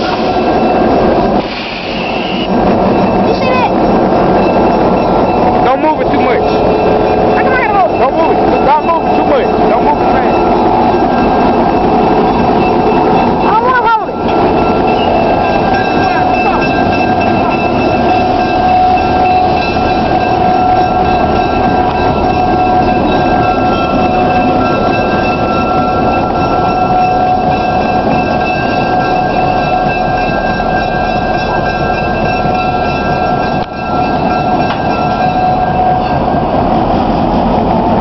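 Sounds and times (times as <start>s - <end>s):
freight train rumbling: 0.0s - 38.0s
high whine: 0.0s - 38.0s.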